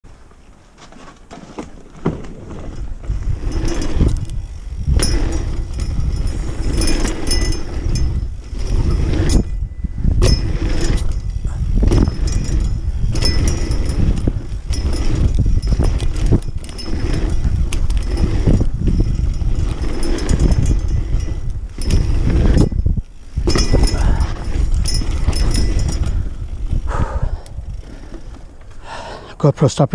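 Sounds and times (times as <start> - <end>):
bike knocks and rattles: 0.7 - 28.8
tyres rumbling on dirt: 0.9 - 29.9
wind rushing over microphone: 2.5 - 28.9.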